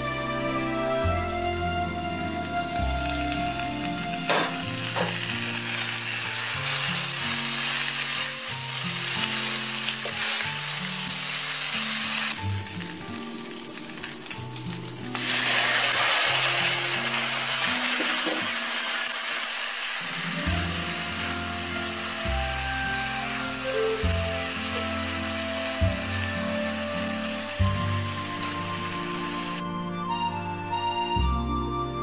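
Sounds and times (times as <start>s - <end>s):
soft background music: 0.0s - 32.0s
food sizzling in a frying pan: 0.1s - 29.6s.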